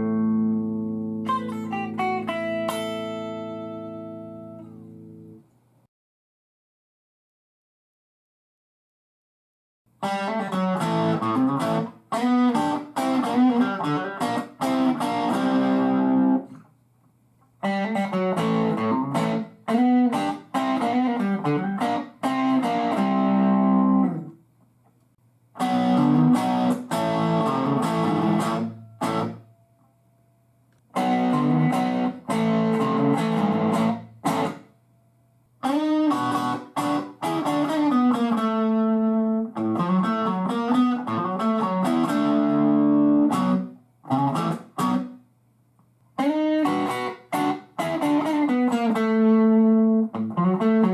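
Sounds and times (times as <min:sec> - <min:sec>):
electric guitar phrases: 0:00.0 - 0:05.5, 0:10.0 - 0:16.7, 0:17.6 - 0:24.4, 0:25.5 - 0:29.5, 0:30.8 - 0:34.7, 0:35.6 - 0:45.2, 0:46.1 - 0:50.9
faint amp hum: 0:00.0 - 0:05.9, 0:10.0 - 0:50.9.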